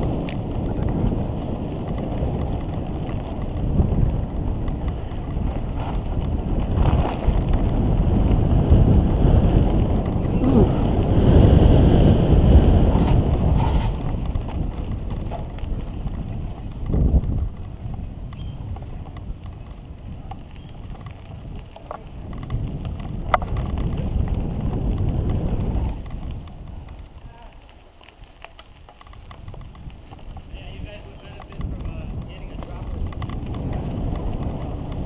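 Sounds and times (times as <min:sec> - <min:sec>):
bike clattering over bumps: 0:00.0 - 0:35.0
tyres rolling over dirt: 0:00.0 - 0:35.0
wind buffeting microphone: 0:00.0 - 0:35.0.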